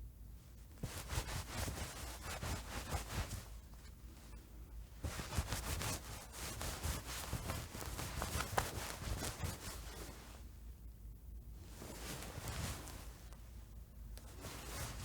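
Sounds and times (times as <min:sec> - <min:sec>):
jacket fabric rustling: 0:00.7 - 0:10.6, 0:11.6 - 0:13.6, 0:14.2 - 0:15.0.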